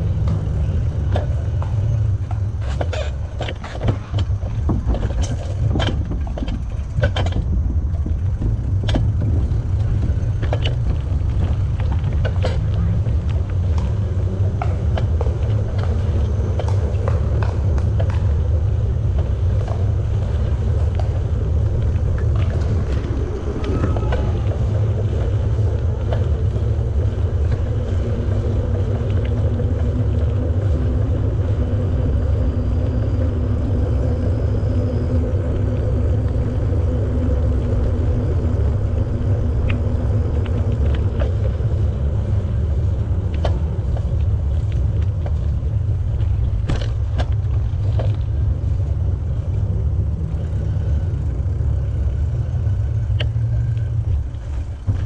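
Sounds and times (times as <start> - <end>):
bicycle rolling on pavement: 0.0 - 55.0.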